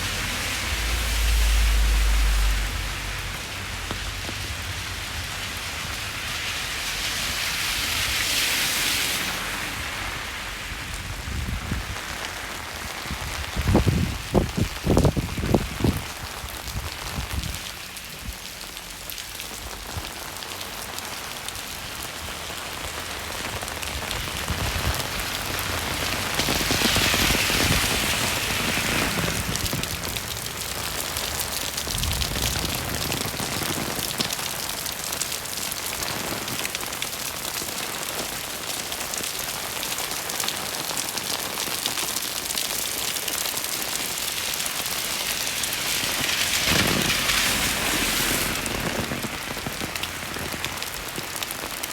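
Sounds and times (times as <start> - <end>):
rain on a wet street: 0.0 - 51.9.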